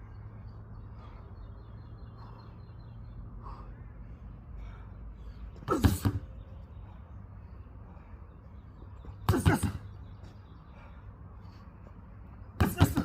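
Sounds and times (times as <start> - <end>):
faint bird chirps: 0.0 - 12.0
steady low rumble: 0.0 - 12.6.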